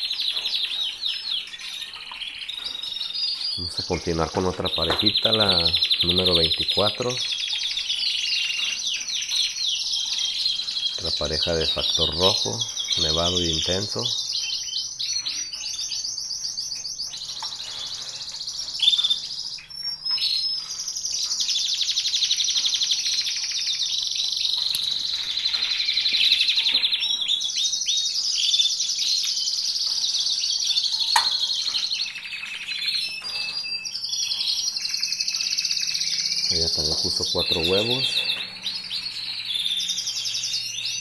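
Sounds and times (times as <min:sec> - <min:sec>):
canaries singing: 0:00.0 - 0:41.0.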